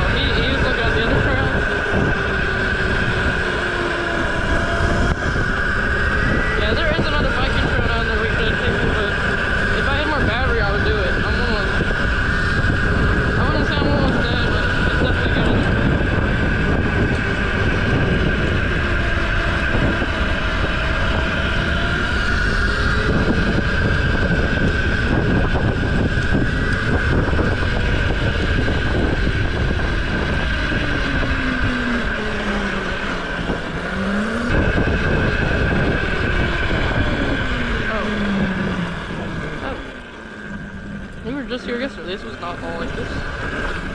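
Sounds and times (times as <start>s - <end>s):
mini bike engine running: 0.0s - 43.9s
wind on microphone: 0.0s - 43.9s.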